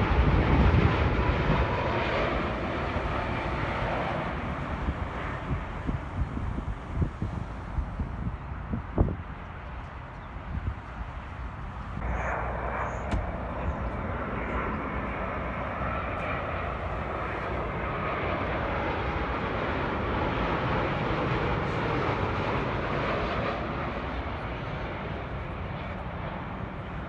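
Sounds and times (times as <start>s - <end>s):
jet airliner engine rushing: 0.0s - 27.0s.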